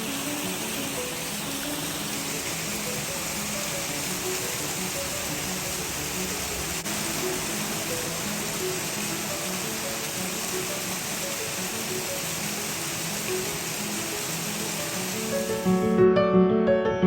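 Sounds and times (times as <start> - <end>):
waterfall rushing: 0.0 - 16.0
soft music: 0.0 - 17.0.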